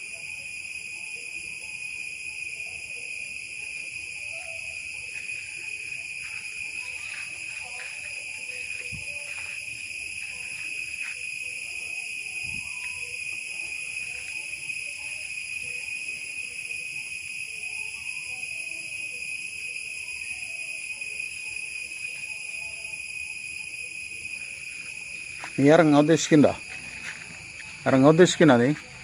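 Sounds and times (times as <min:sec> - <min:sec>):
faint scattered sounds: 0:00.0 - 0:29.0
insect chorus drone: 0:00.0 - 0:29.0.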